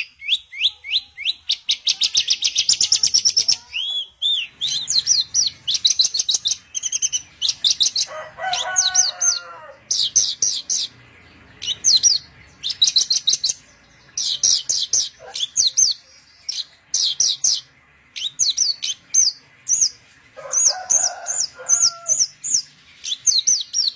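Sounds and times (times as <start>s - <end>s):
bird singing rapid chirps: 0.0s - 23.9s
bird warbling: 1.3s - 23.9s.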